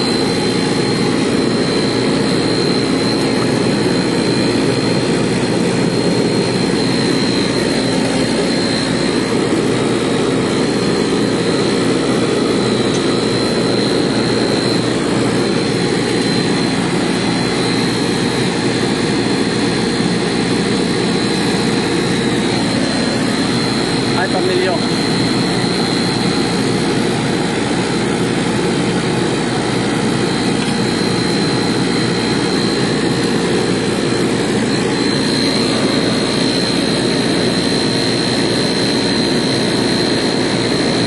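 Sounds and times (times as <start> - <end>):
high steady whine: 0.0 - 41.0
machinery droning: 0.0 - 41.0.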